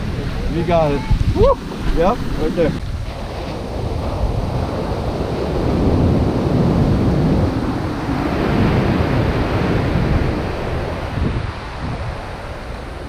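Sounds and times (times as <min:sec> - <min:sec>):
ocean surf breaking: 0:00.0 - 0:13.0
wind noise on microphone: 0:00.0 - 0:13.0.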